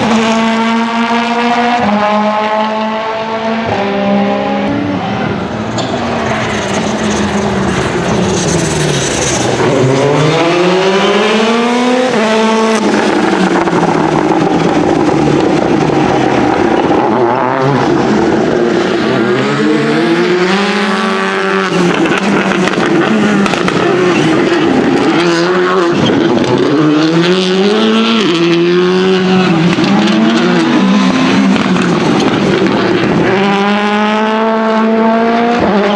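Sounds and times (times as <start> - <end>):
rally car engine revving: 0.0 - 35.9.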